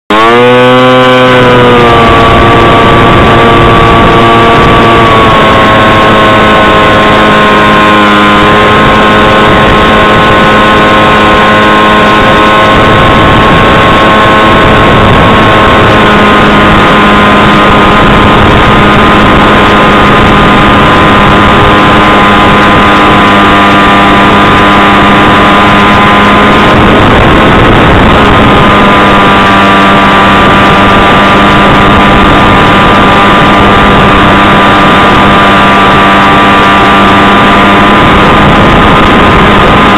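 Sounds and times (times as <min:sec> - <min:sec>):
electric motor and propeller whine: 0:00.1 - 0:39.9
heavy wind noise: 0:00.1 - 0:39.9.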